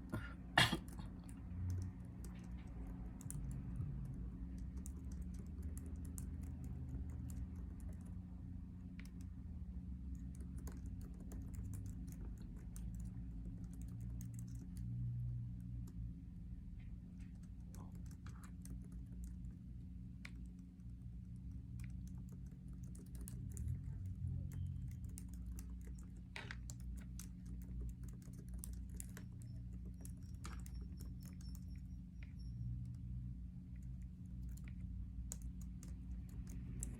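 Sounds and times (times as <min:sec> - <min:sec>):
low electrical hum: 0:00.0 - 0:36.9
light clicks and taps: 0:01.2 - 0:16.1, 0:16.7 - 0:36.9.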